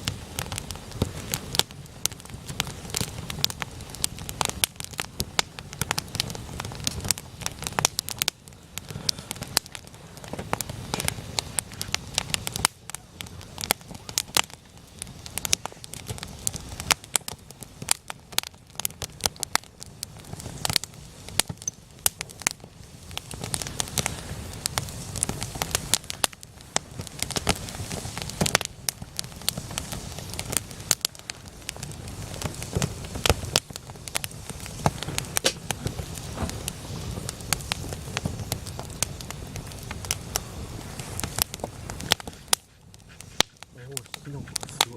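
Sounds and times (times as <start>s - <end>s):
campfire pops and crackles: 0.0s - 44.9s
low rushing of flames: 0.0s - 44.9s.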